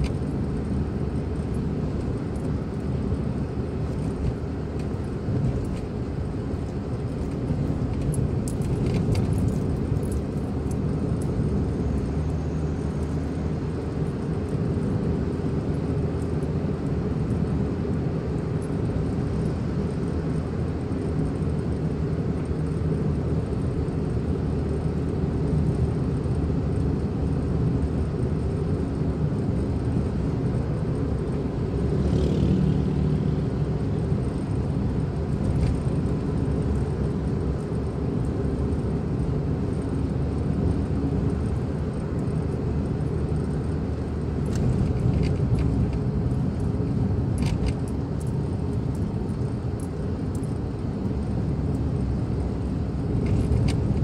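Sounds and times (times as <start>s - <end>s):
car cabin engine and road noise: 0.0s - 54.0s.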